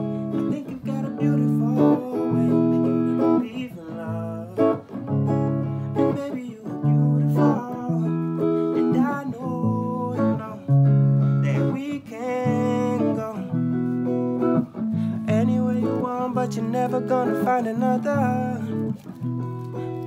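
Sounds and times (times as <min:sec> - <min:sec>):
electric guitar chords: 0:00.0 - 0:20.0
person singing: 0:00.0 - 0:20.0.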